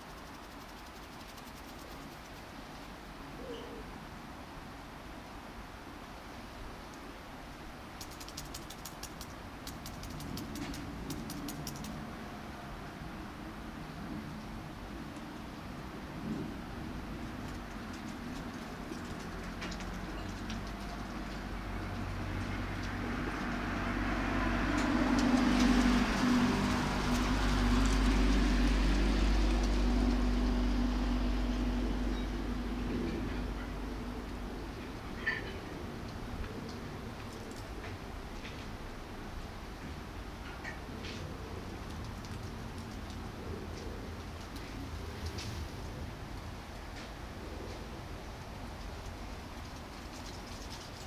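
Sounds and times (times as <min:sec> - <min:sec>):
steady background hum: 0:00.0 - 0:51.0.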